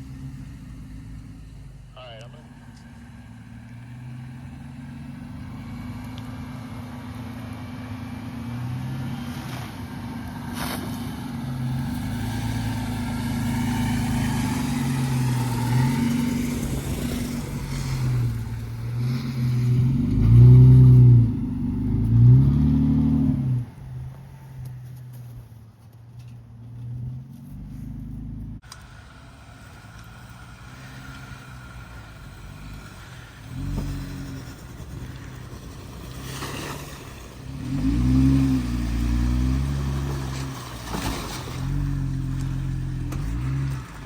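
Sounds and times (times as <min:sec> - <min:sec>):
vehicle engine running and revving: 0:00.0 - 0:25.4, 0:26.6 - 0:44.0.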